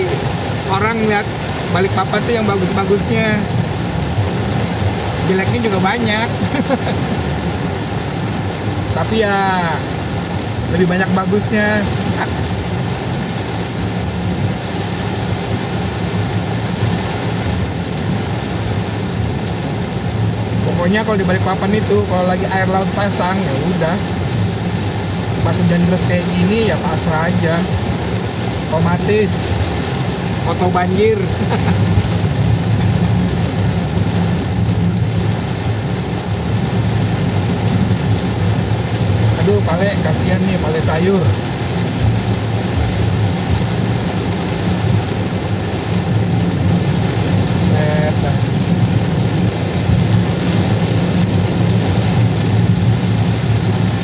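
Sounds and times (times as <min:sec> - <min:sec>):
low car engine hum: 0:00.0 - 0:54.0
rain and tyres on wet road: 0:00.0 - 0:54.0.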